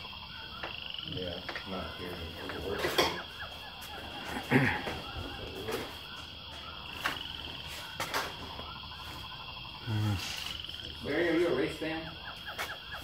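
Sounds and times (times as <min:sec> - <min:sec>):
insect pulsed trills: 0:00.0 - 0:13.0
insects droning: 0:00.0 - 0:13.0.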